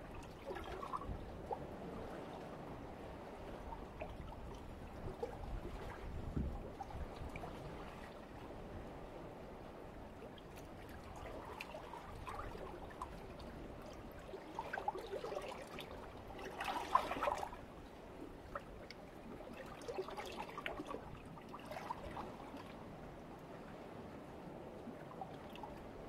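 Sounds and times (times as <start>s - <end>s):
gurgling water surges: 0.0s - 26.0s.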